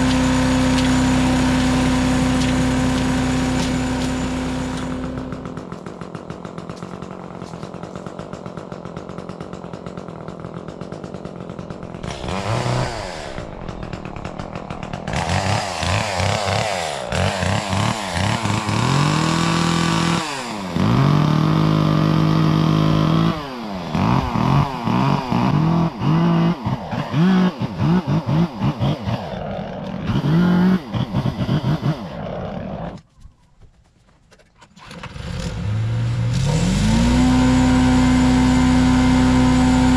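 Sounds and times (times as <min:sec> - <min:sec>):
chipper shredder engine running: 0:00.0 - 0:33.0, 0:34.8 - 0:39.9.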